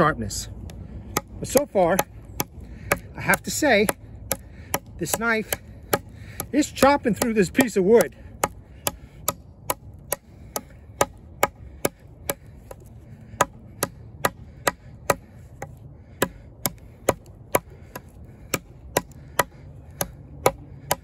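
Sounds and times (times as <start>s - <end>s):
knife chopping into wood: 1.1s - 21.0s.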